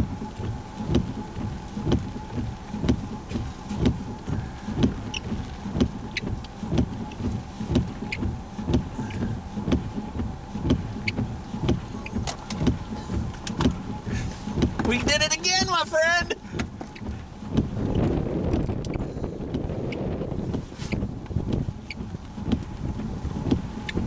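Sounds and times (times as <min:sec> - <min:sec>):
regular thump: 0:00.0 - 0:24.0
steady low rumble: 0:00.0 - 0:24.0.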